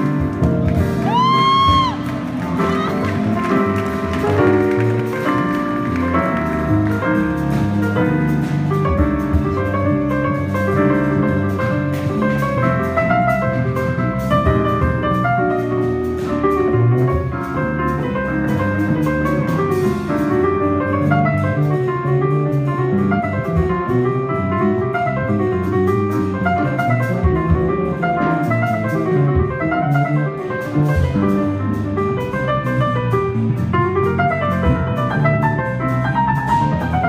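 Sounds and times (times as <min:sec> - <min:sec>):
drum kit playing: 0:00.0 - 0:37.0
jazz piano: 0:00.0 - 0:37.0.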